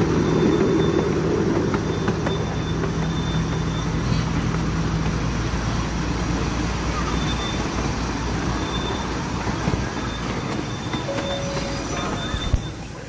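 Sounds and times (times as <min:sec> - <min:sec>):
small train wheels rumbling: 0:00.0 - 0:13.0.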